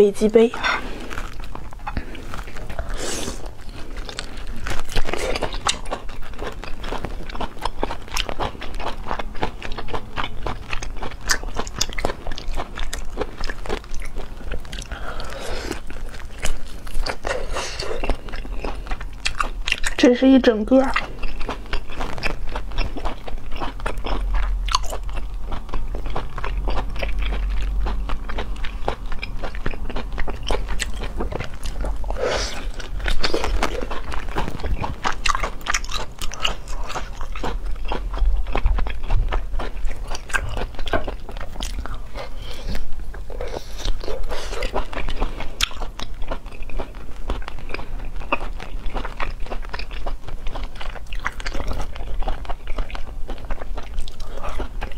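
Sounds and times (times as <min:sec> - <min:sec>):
steady low hum: 0:00.0 - 0:54.9
wet biting and chewing: 0:00.6 - 0:20.1, 0:20.7 - 0:54.9.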